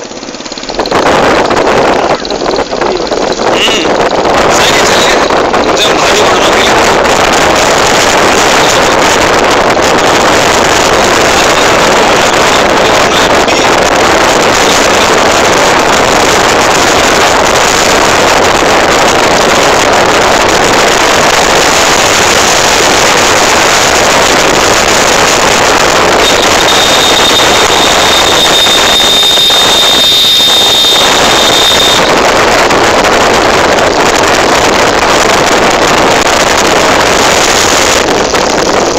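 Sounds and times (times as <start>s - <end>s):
thin high whine: 0.0s - 38.9s
wind buffeting microphone: 0.0s - 38.9s
wind rush and road noise: 0.0s - 38.9s.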